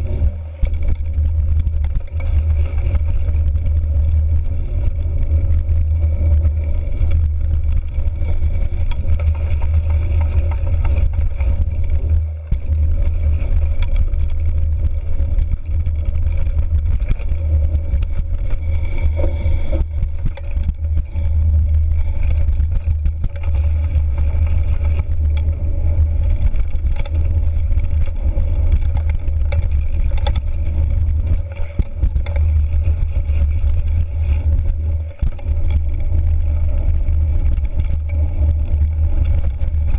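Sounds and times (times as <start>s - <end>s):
bike rattling over bumps: 0.0s - 39.9s
faint steady whine: 0.0s - 39.9s
wind and tyre rumble: 0.0s - 39.9s.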